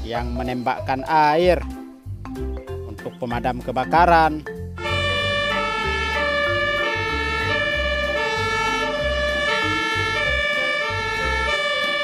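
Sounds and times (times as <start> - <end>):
pulsing bass beat: 0.0 - 12.0
synth melody: 0.0 - 12.0.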